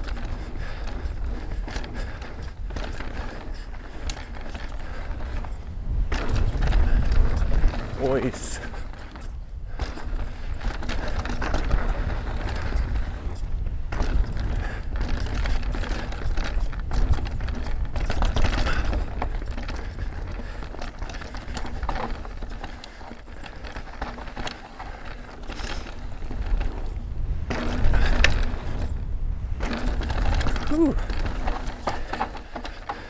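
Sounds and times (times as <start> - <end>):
bike rattling and clicking: 0.0 - 33.0
bike tyres rolling over gravel: 0.0 - 33.0.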